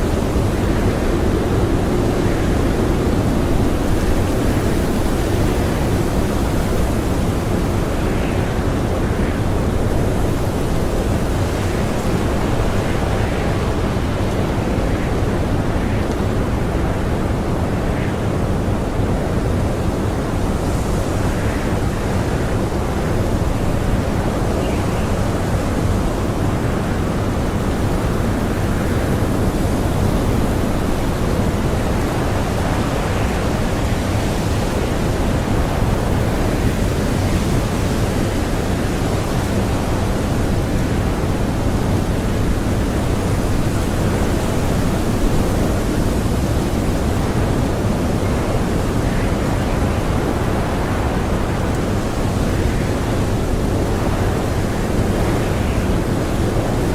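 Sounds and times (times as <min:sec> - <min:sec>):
strong blizzard wind: 0:00.0 - 0:56.9.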